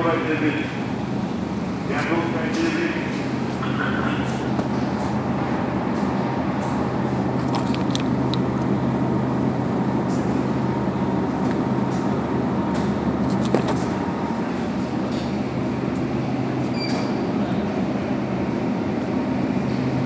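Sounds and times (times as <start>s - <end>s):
refrigerator machine hum: 0.0s - 20.0s.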